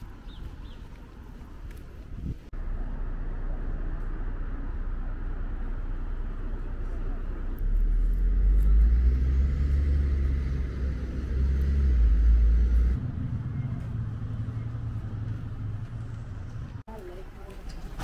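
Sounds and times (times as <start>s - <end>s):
road traffic rumbling: 0.0s - 18.0s
vehicle engine rumble: 0.0s - 18.0s.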